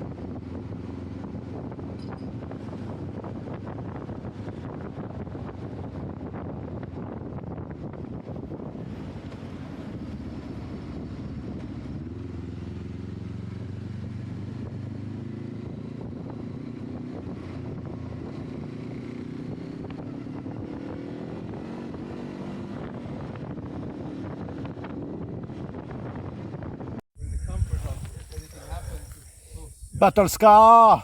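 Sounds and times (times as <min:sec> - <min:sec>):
motorcycle engine running: 0:00.0 - 0:29.2.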